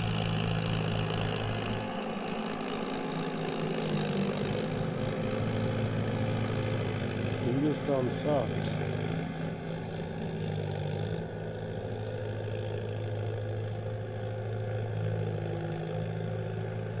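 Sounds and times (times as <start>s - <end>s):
tractor engine idling: 0.0s - 15.6s.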